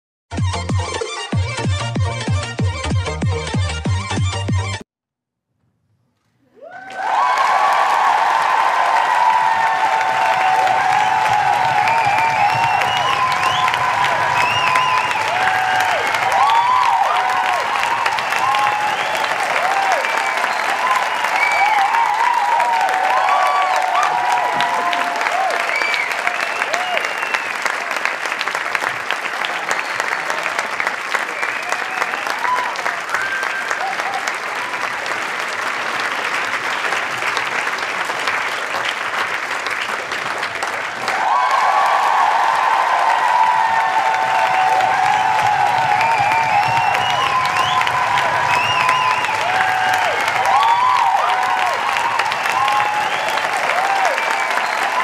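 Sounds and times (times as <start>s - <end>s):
crowd applauding: 6.5s - 55.0s
crowd cheering calls: 6.5s - 55.0s.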